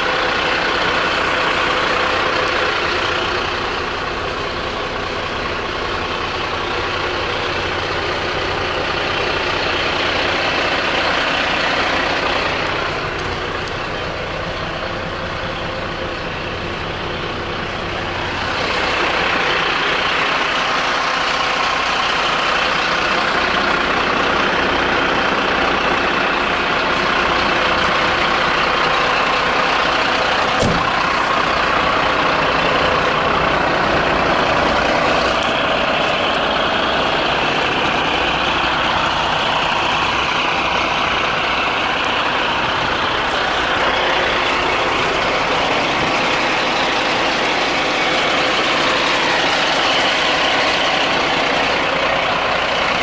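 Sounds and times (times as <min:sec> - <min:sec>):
diesel truck engine idling: 0:00.0 - 0:53.0.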